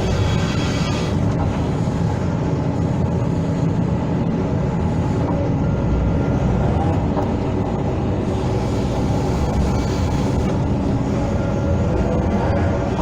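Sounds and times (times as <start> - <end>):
excavator diesel engine rumble: 0.0 - 13.0.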